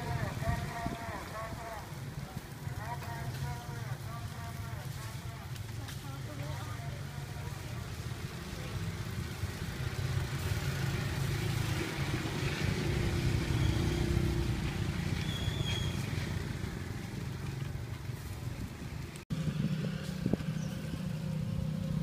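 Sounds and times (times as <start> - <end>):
outdoor background noise: 0.0 - 22.0
vehicle engine rumbling: 0.0 - 22.0.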